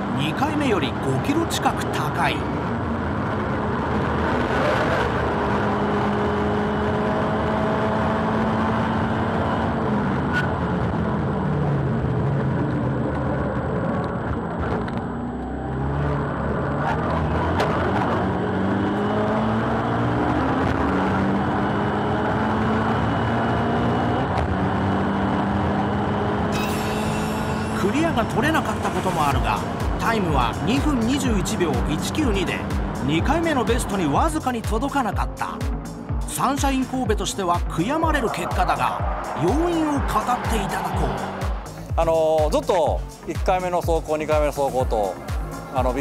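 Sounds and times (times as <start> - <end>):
turbocharged car engine: 0.0 - 42.2.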